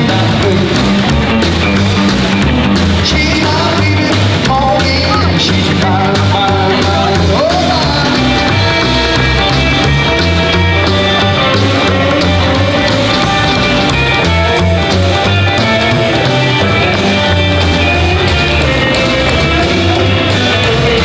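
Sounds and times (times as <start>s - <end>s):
loud rock and roll music: 0.0s - 21.0s.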